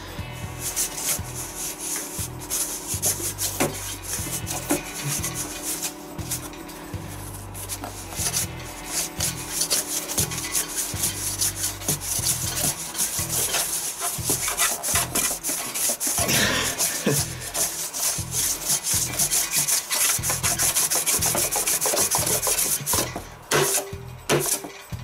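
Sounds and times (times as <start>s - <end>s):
electromagnet low hum: 0.0s - 24.3s
metal rubbing across board: 0.0s - 25.0s.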